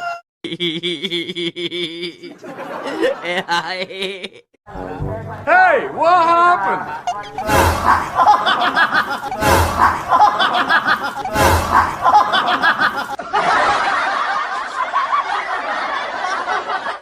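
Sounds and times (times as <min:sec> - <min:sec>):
people laughing: 0:00.5 - 0:04.6, 0:06.4 - 0:17.0.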